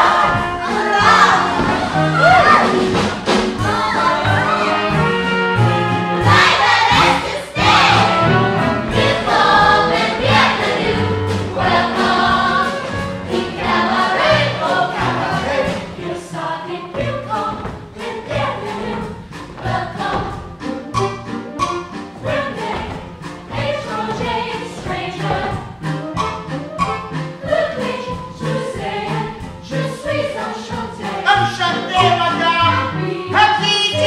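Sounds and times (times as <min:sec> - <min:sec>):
band accompaniment: 0:00.0 - 0:16.2, 0:16.9 - 0:34.0
chorus singing together: 0:00.0 - 0:21.0, 0:21.6 - 0:25.9, 0:27.4 - 0:34.0.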